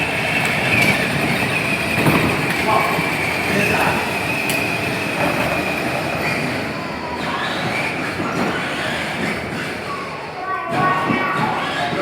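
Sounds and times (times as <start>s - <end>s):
plastic wheels rolling on floor: 0.0s - 12.0s.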